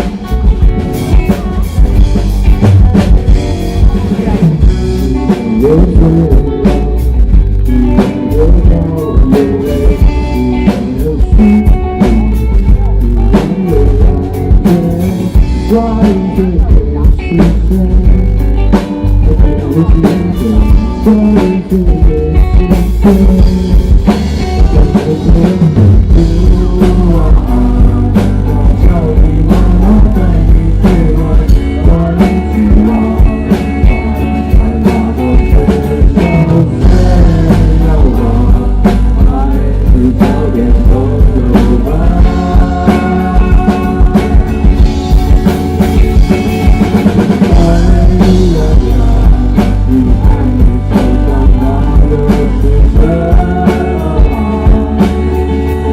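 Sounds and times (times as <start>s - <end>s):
bass guitar: 0.0s - 55.9s
drum kit: 0.0s - 55.9s
electric guitars: 0.0s - 55.9s
person singing: 0.0s - 55.9s.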